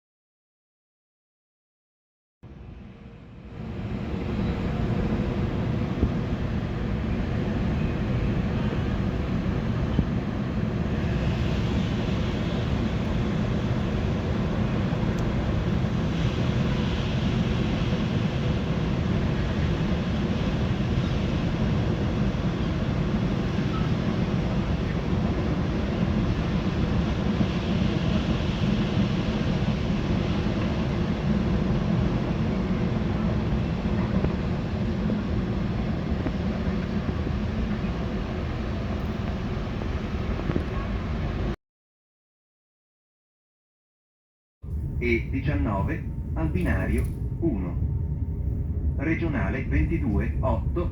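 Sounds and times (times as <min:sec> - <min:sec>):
train rumbling past: 0:02.5 - 0:41.6, 0:44.6 - 0:50.9.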